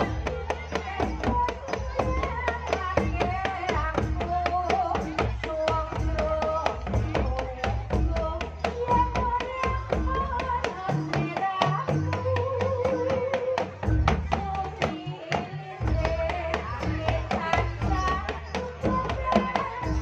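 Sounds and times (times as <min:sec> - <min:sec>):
hand drum playing: 0:00.0 - 0:20.0
struck percussion: 0:00.0 - 0:20.0.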